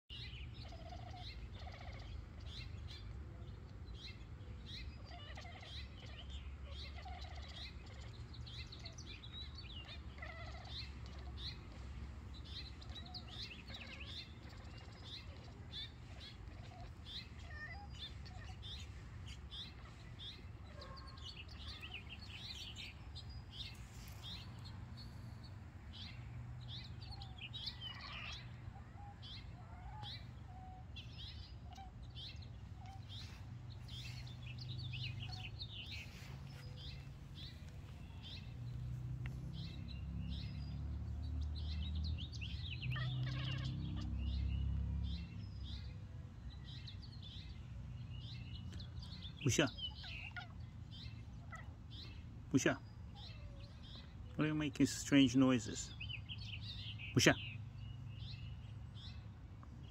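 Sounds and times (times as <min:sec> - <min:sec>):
songbirds chirping: 0:00.1 - 0:59.9.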